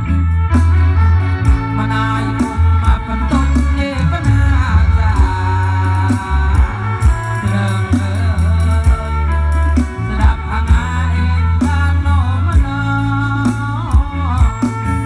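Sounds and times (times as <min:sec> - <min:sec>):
heavy bass line: 0:00.0 - 0:15.0
song with singing and guitar: 0:00.0 - 0:15.0.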